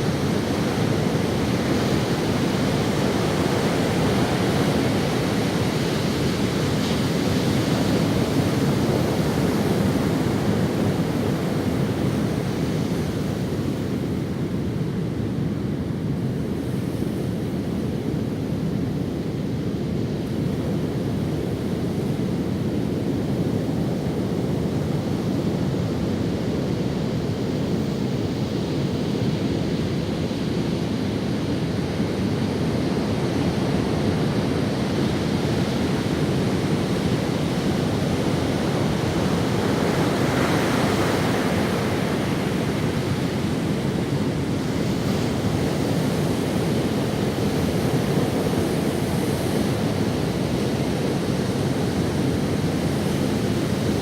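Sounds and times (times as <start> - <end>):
ocean waves breaking on sand: 0.0 - 54.0
wind rumbling on microphone: 0.0 - 54.0.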